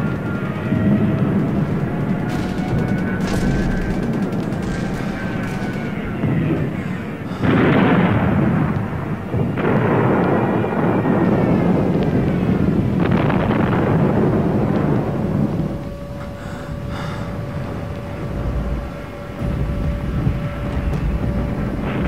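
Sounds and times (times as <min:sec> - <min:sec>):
rumble of artillery blasts: 0:00.0 - 0:22.0
heavy explosion blasts: 0:00.8 - 0:22.0.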